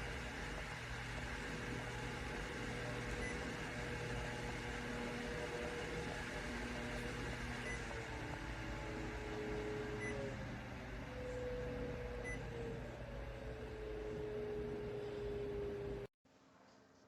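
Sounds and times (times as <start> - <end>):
fan air rushing: 0.0 - 16.1
low motor hum: 0.0 - 16.1.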